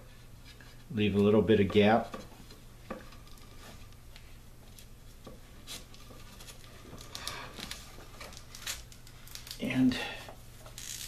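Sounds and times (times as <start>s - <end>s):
cord rustling and ticking: 0.5s - 11.0s.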